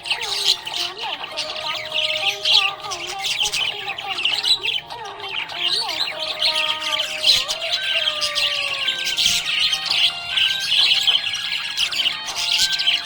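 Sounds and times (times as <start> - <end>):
budgerigars chirping and squawking: 0.0 - 13.0.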